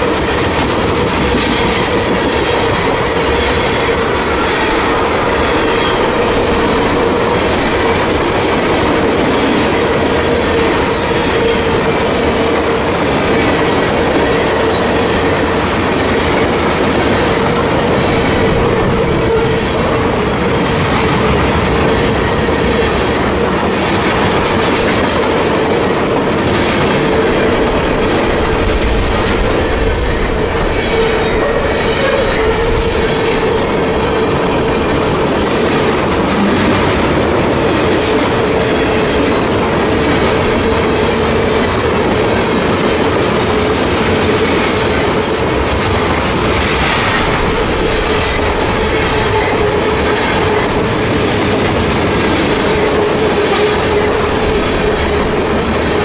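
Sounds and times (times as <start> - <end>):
freight train wheels clickety-clack: 0.0 - 56.0.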